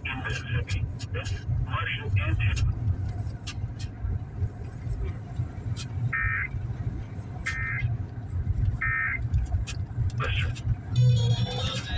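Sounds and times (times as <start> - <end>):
car rumbling on road: 0.0 - 11.9.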